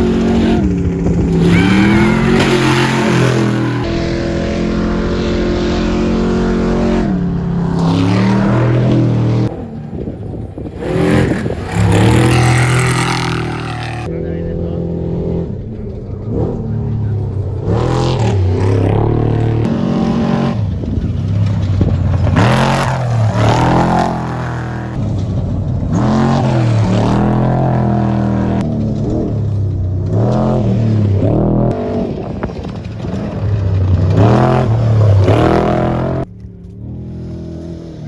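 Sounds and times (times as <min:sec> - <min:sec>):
race trucks revving and passing: 0:00.0 - 0:38.0.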